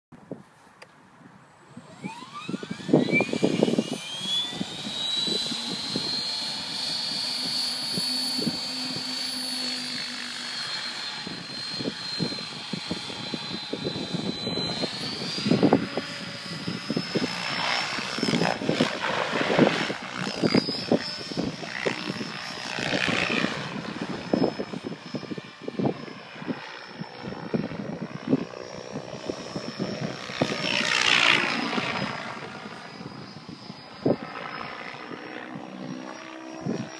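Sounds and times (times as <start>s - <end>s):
rc helicopter rotor whine: 0.7s - 36.9s
wind buffeting microphone: 1.2s - 9.3s, 11.0s - 36.9s.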